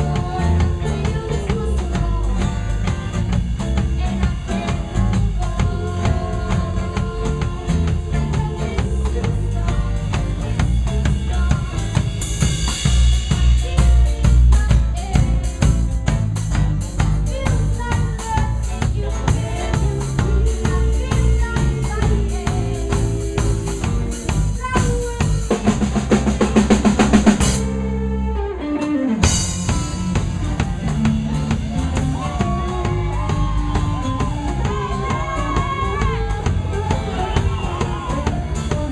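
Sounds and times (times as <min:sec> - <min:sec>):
drum kit: 0:00.0 - 0:38.9
live band playing: 0:00.0 - 0:38.9.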